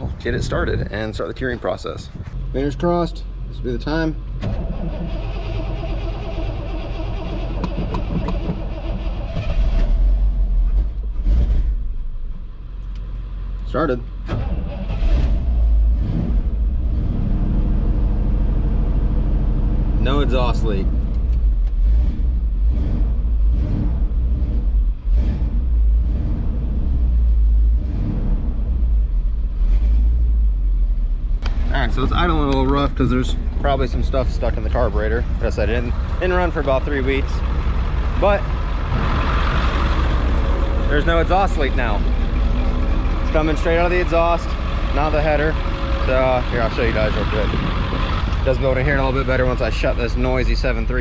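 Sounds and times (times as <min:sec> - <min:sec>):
diesel engine idling: 0:00.0 - 0:16.8, 0:17.5 - 0:51.0
engine cranking and firing: 0:03.4 - 0:51.0.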